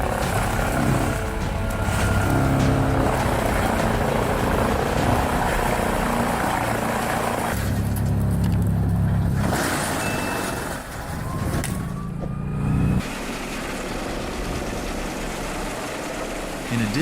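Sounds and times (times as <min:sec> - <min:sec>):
wood chipper chipping: 0:00.0 - 0:11.9, 0:13.0 - 0:17.0
deep tractor engine: 0:00.0 - 0:17.0.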